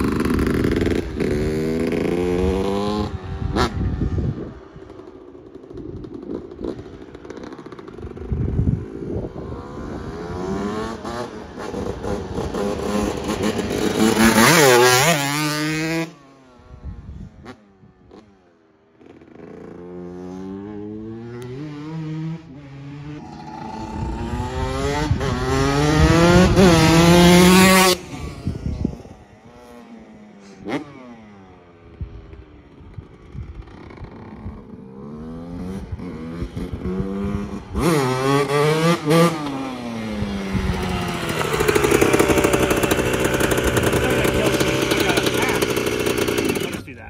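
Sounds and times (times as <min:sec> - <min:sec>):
dirt bike engine revving: 0:00.0 - 0:04.9, 0:05.7 - 0:16.3, 0:19.0 - 0:32.0, 0:33.6 - 0:46.9.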